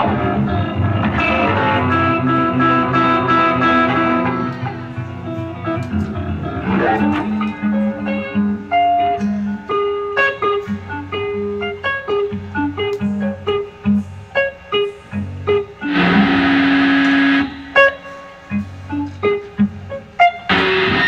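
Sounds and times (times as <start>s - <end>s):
burst of harsh guitar noise: 0.0s - 11.7s, 13.9s - 21.0s
electric guitar choppy picked notes: 0.0s - 21.0s.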